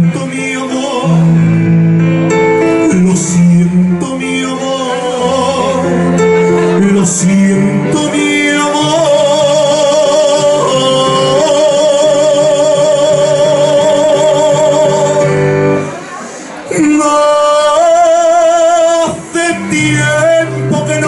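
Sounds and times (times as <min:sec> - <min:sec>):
electronic keyboard: 0:00.0 - 0:21.0
man singing into a microphone: 0:00.0 - 0:21.0.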